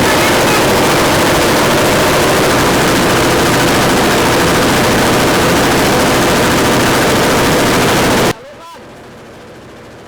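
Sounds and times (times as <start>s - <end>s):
machine running with fast rattle: 0.0s - 8.4s.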